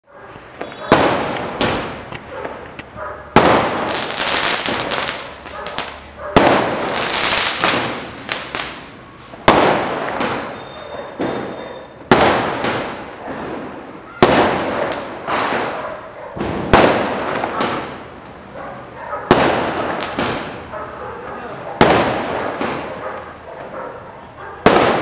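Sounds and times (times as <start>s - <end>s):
fireworks bangs: 0.2s - 25.0s
small fireworks pops: 0.3s - 18.4s, 19.3s - 20.7s, 21.8s - 23.5s, 24.6s - 25.0s
fireworks crackle: 0.3s - 20.8s, 21.5s - 23.8s, 24.6s - 25.0s.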